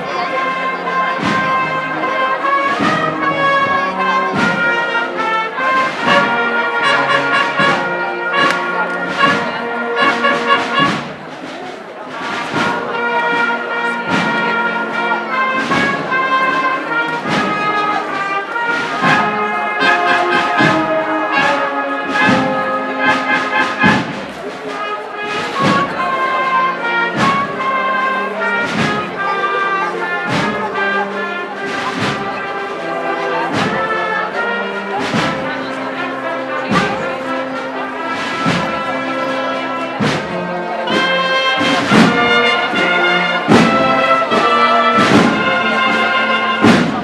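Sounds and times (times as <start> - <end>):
brass band playing a march: 0.0 - 47.0.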